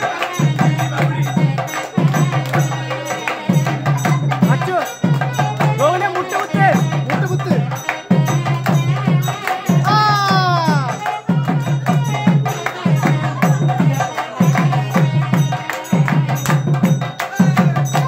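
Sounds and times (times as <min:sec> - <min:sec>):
drum in fast rhythm: 0:00.0 - 0:18.0.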